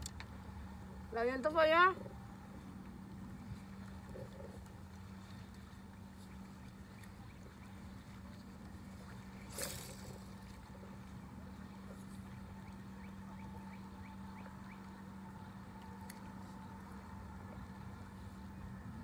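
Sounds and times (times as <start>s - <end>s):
distant motorboat engine hum: 0.0s - 19.0s.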